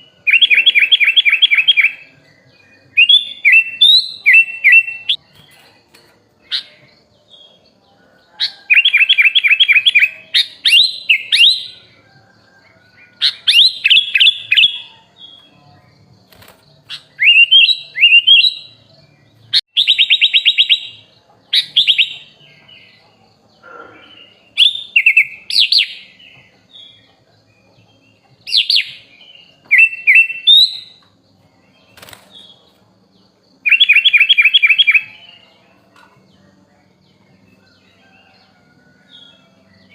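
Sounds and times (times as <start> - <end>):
bulbul singing trills and whistles: 0.0 - 32.8, 33.5 - 39.9.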